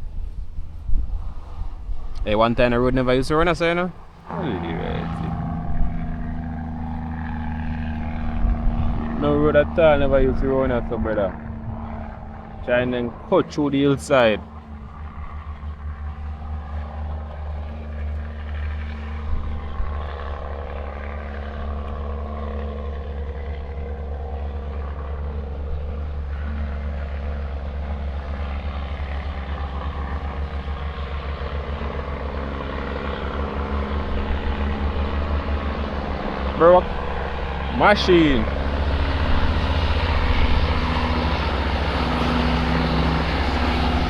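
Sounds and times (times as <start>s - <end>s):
diesel truck engine running: 2.2s - 44.0s.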